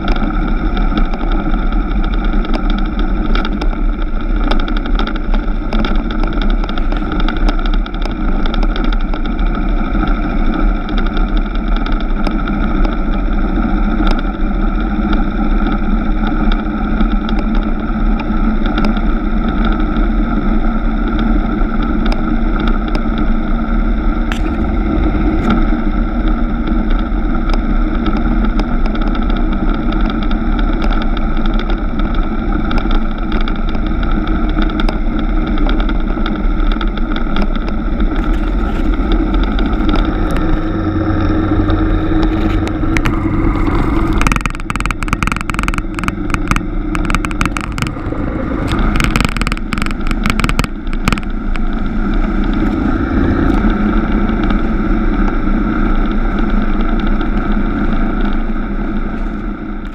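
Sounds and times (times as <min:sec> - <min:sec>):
rapid crackle of clicks: 0:00.0 - 0:20.0, 0:21.1 - 0:59.9
motorcycle engine running: 0:00.0 - 0:59.9
tyre and wind noise: 0:00.0 - 0:59.9.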